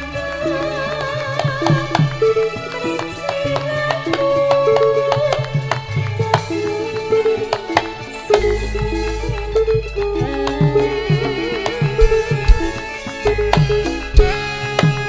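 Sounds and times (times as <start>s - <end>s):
drum strokes: 0.0s - 15.0s
melodic lead line: 0.0s - 15.0s.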